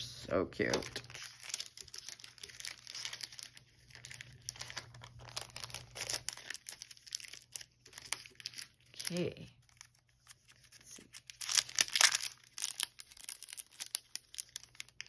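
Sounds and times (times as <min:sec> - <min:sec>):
paper rustling and crinkling: 0:00.6 - 0:15.0.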